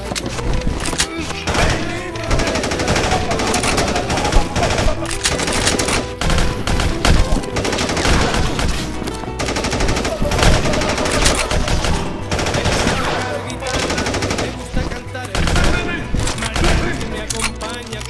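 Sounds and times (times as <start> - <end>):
background music: 0.0 - 18.0
rapid automatic gunfire: 0.7 - 17.5.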